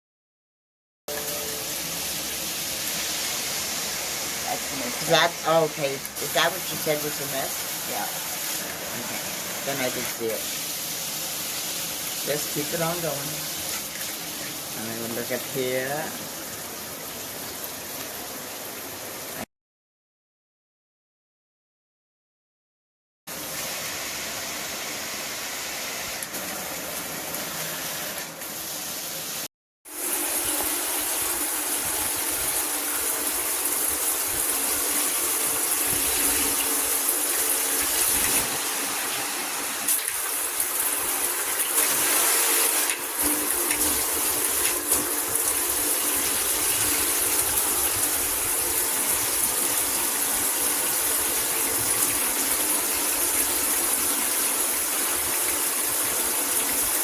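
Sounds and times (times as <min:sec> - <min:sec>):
shower spraying water: 0:01.2 - 0:19.5, 0:23.3 - 0:57.0.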